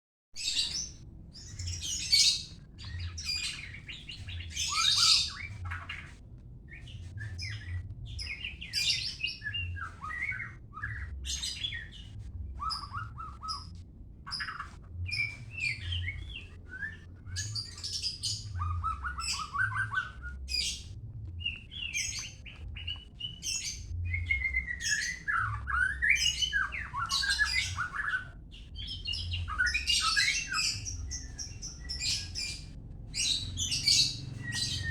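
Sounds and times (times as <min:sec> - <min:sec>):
bird singing varied song: 0:00.4 - 0:34.9.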